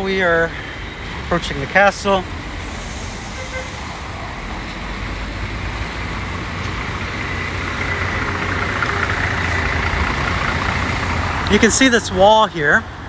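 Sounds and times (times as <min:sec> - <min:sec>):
traffic on a wet street: 0:00.0 - 0:13.0.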